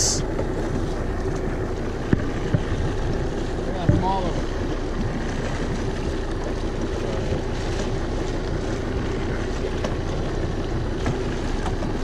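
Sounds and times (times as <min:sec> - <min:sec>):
low boat engine hum: 0:00.0 - 0:12.0
wind buffeting microphone: 0:00.2 - 0:12.0.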